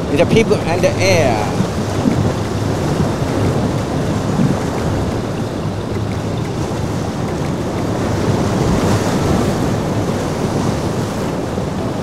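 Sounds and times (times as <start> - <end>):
rough surf and boat wake: 0.0 - 12.0
wind buffeting microphone: 0.0 - 12.0.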